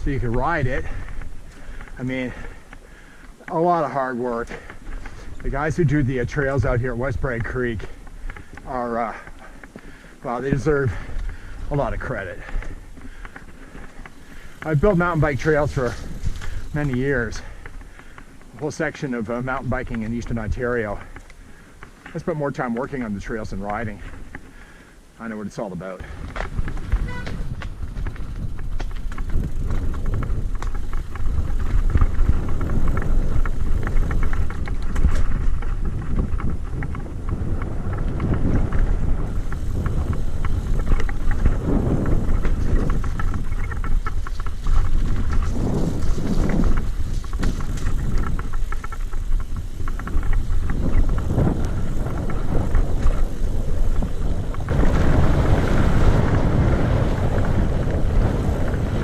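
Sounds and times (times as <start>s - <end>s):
mountain bike rattling and knocking: 0.0s - 59.0s
wind rumbling on microphone: 0.0s - 59.0s.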